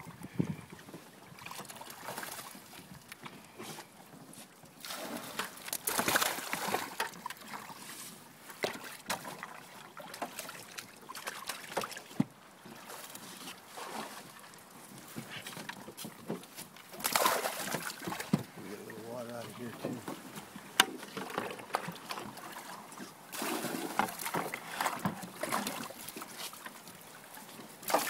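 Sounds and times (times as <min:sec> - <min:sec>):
water sloshing in a cooler: 0:00.3 - 0:28.0.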